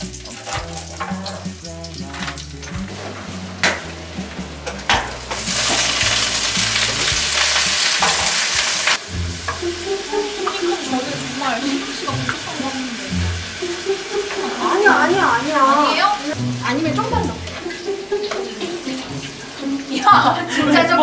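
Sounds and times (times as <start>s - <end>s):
background music: 0.0s - 21.0s
spinach sizzling in oil: 0.0s - 21.0s.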